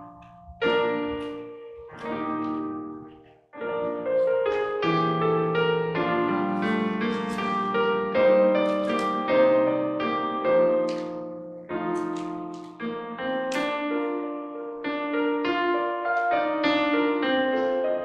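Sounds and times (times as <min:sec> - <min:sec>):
piano playing slow chords: 0:00.0 - 0:18.0.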